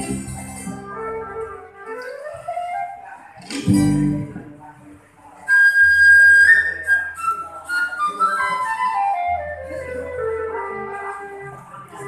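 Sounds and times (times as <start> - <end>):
flute melody: 0.0 - 4.4, 5.4 - 12.0.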